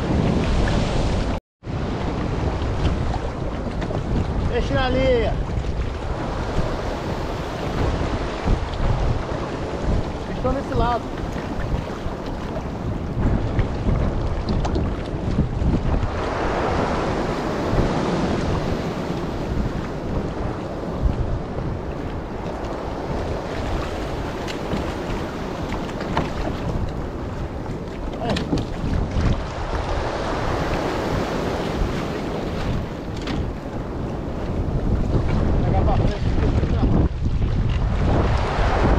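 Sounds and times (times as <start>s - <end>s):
waves washing: 0.0s - 38.9s
wind buffeting microphone: 0.0s - 38.9s.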